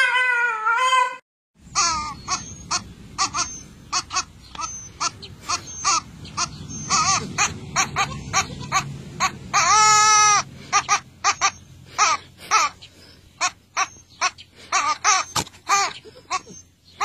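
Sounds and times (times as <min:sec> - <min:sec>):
goat kid bleating: 0:01.7 - 0:16.6.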